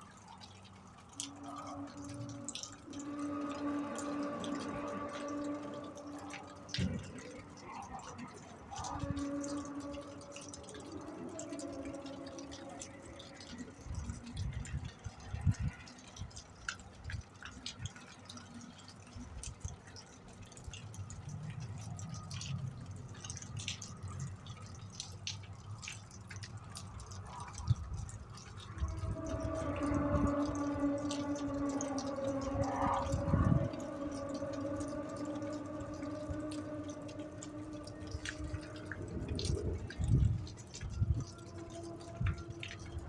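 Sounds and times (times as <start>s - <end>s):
dripping ticks: 0.0s - 43.0s
low droning hum: 0.0s - 43.0s.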